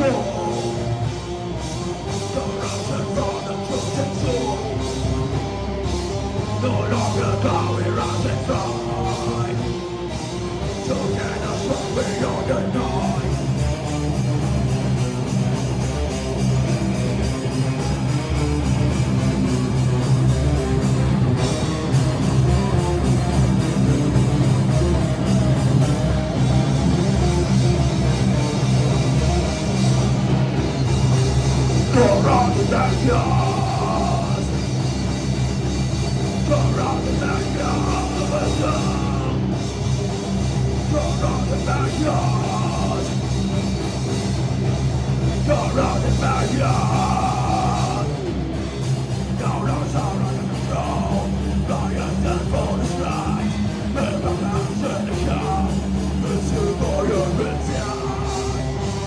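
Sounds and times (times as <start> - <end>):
distorted guitars: 0.0 - 59.0
pounding drum kit: 0.0 - 59.0
rock vocals: 0.0 - 59.0.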